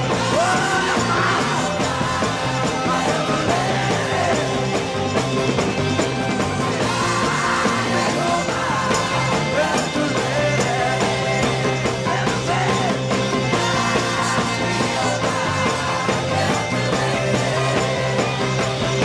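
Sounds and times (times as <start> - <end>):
person singing: 0.0 - 5.0, 6.8 - 19.0
rock band playing: 0.0 - 19.0.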